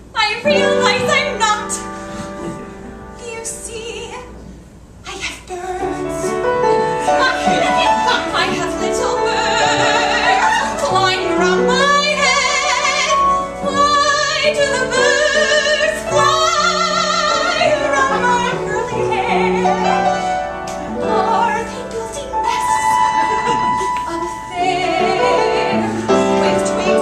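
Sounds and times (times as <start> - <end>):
piano accompaniment: 0.0 - 27.0
woman singing operatic soprano: 3.2 - 4.4, 5.0 - 20.4, 21.0 - 27.0.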